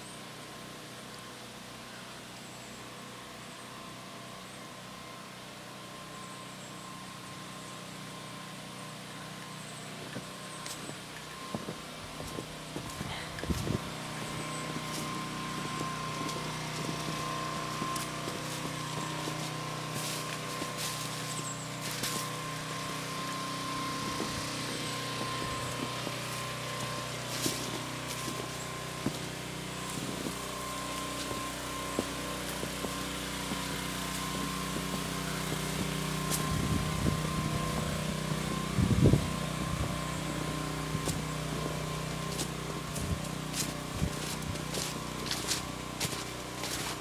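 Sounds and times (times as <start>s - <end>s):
low engine hum: 0.0s - 47.0s.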